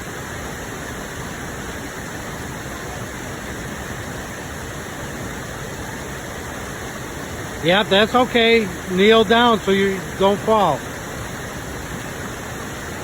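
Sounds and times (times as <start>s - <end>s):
rushing waterfall and creek: 0.0s - 13.0s.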